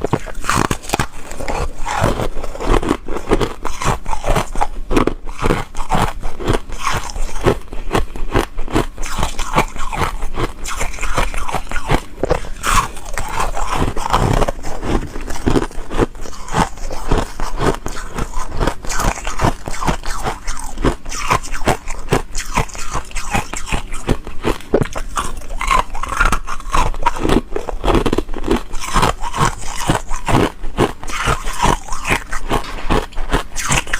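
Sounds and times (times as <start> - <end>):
chewing crunchy ice: 0.0 - 33.9.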